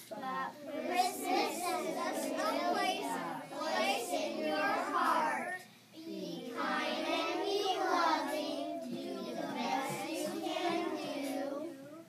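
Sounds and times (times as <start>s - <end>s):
children singing together: 0.6s - 12.0s.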